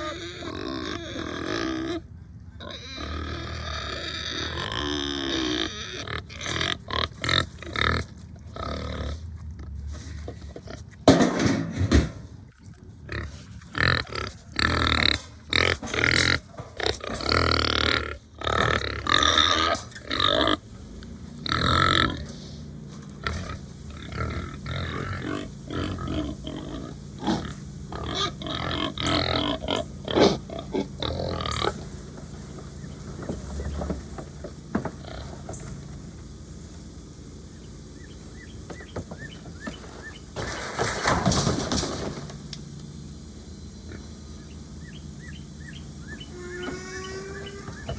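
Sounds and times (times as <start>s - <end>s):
pigs grunting and calling: 0.0s - 12.0s, 12.6s - 34.2s, 34.8s - 35.7s, 43.8s - 47.9s.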